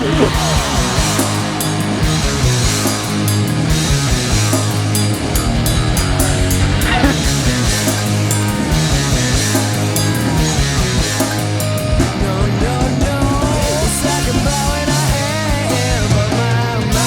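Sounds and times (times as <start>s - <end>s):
rock music: 0.0s - 17.0s
steady drum beat: 0.0s - 17.0s
sustained bass line: 0.0s - 17.0s.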